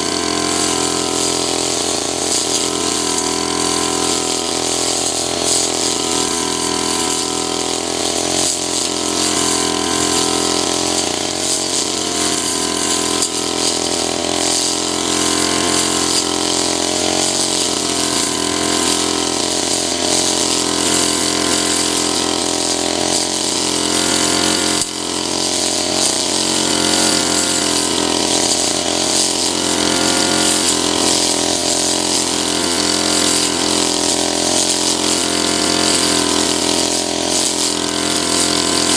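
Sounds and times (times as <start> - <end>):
brush cutter cutting grass: 0.0 - 38.9.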